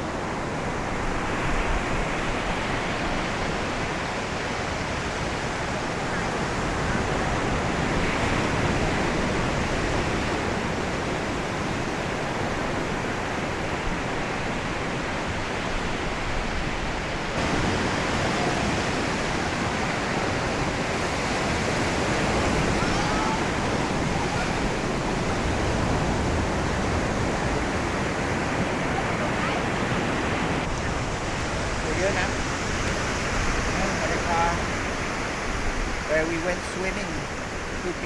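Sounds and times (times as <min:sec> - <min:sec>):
sea waves washing onto sand: 0:00.0 - 0:38.0.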